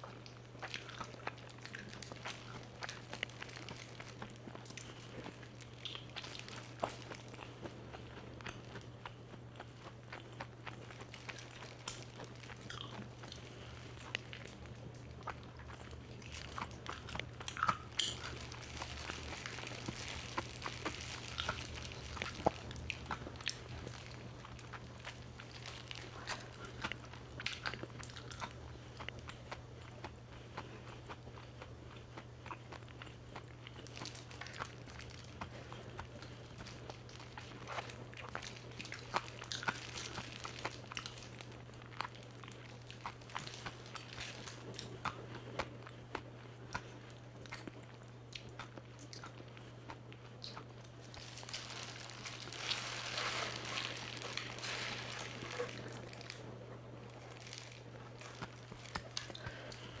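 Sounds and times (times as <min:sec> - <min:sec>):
crunchy chewing: 0:00.0 - 1:00.0
steady low hum: 0:00.0 - 1:00.0.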